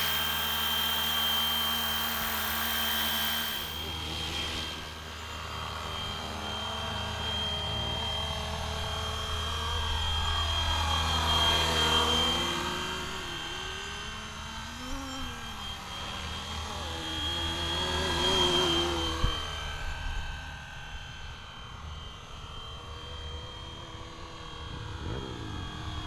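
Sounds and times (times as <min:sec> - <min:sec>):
model helicopter rotor whine: 0:00.0 - 0:26.0.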